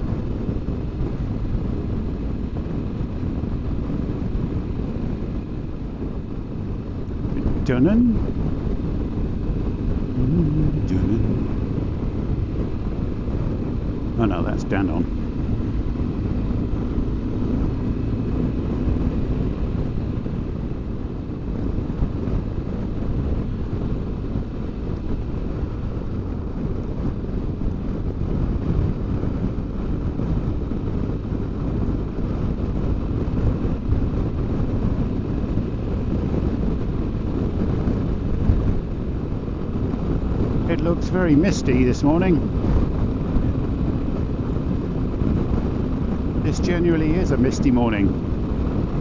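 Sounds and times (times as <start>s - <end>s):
motorcycle engine rumble: 0.0s - 49.0s
wind buffeting microphone: 0.0s - 49.0s.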